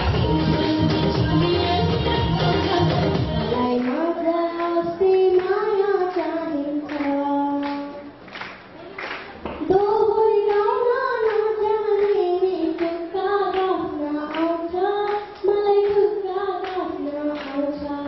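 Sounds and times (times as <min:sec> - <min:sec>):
girl singing into a microphone: 0:00.0 - 0:08.2, 0:08.8 - 0:18.0.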